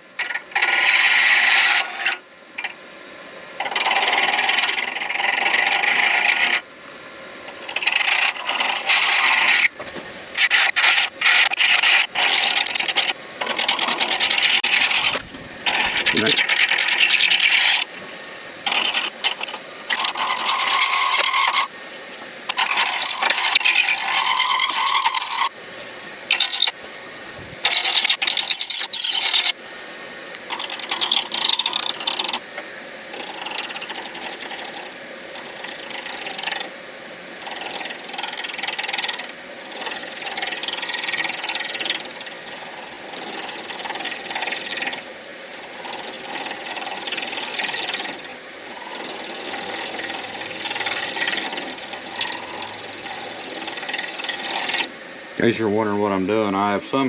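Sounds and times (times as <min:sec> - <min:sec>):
lathe tool scraping acrylic: 0:00.2 - 0:02.7, 0:03.6 - 0:06.7, 0:07.5 - 0:21.8, 0:22.5 - 0:25.5, 0:26.3 - 0:26.8, 0:27.6 - 0:29.6, 0:30.4 - 0:32.4, 0:33.1 - 0:36.7, 0:37.4 - 0:55.0.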